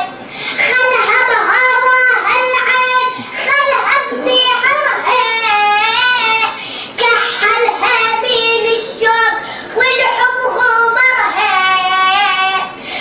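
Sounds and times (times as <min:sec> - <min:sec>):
high voice chanting a poem: 0:00.0 - 0:12.8.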